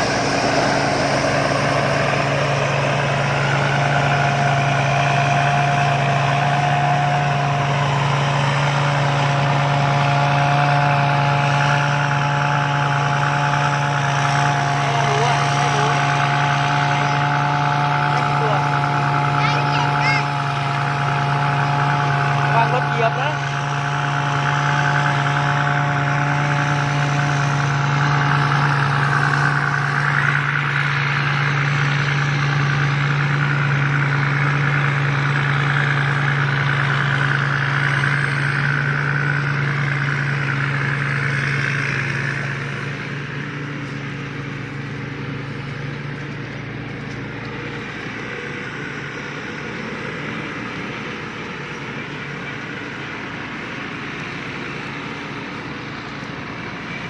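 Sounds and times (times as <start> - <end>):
harvester diesel engine humming: 0.0 - 57.0.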